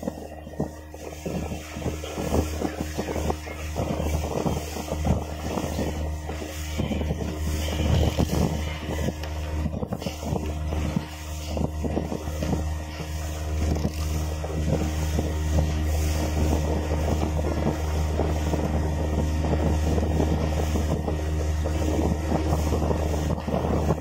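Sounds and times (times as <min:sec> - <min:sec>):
outboard motor running: 0:00.0 - 0:24.0
water splashing against hull: 0:00.0 - 0:24.0
wind on microphone: 0:00.0 - 0:24.0.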